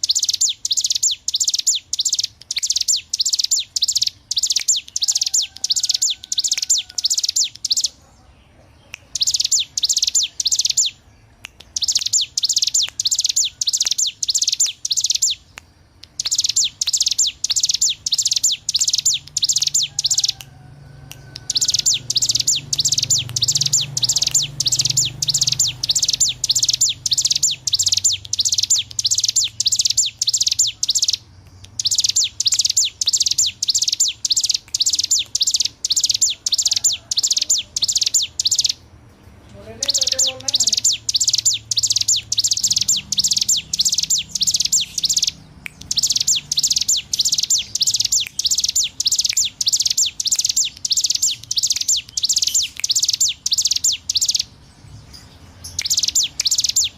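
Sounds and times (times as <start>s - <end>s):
bird singing rapid high notes: 0.0s - 8.1s, 8.8s - 20.6s, 21.2s - 38.9s, 39.5s - 56.9s.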